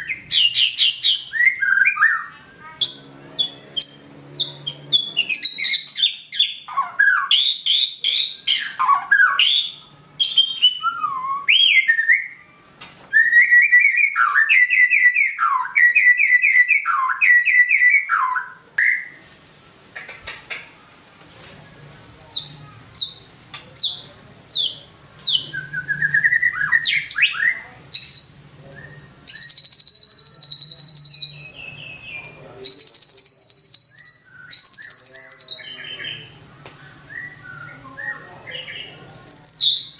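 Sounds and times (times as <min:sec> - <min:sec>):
songbird whistling song: 0:00.0 - 0:19.4, 0:21.8 - 0:39.9.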